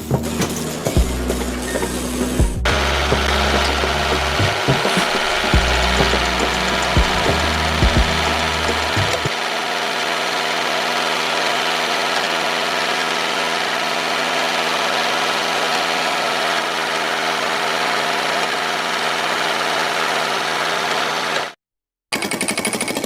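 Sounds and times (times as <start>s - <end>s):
engine running: 0.0s - 21.5s.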